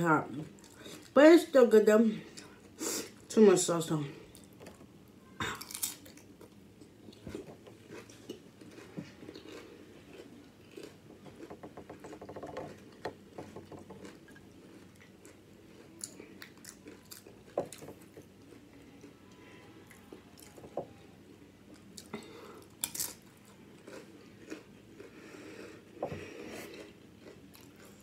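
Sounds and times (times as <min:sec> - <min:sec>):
chewing and crunching chips: 0:04.3 - 0:20.6, 0:21.2 - 0:28.0.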